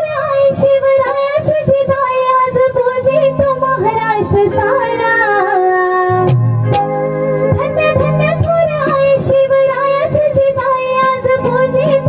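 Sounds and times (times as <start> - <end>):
steady instrumental tones: 0.0 - 12.0
woman singing into microphone: 0.0 - 12.0.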